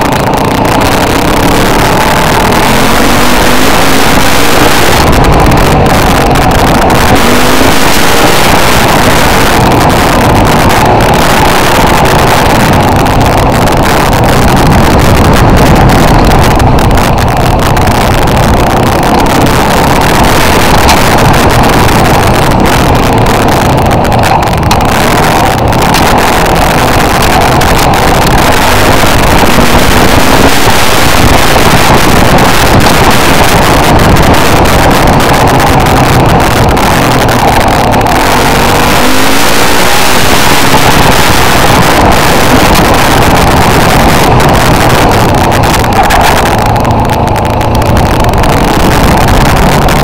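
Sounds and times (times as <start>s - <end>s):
off-road vehicle engine running: 0.0s - 50.0s
wind rush on microphone: 0.0s - 50.0s.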